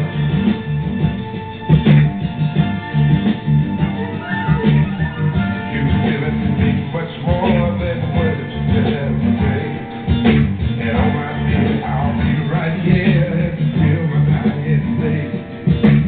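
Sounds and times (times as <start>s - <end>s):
song with guitar: 0.0s - 16.0s.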